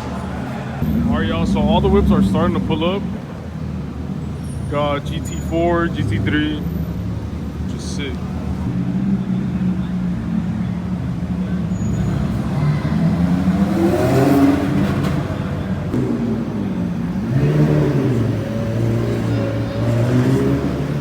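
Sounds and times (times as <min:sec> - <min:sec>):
sports car engines revving: 0:00.0 - 0:21.0.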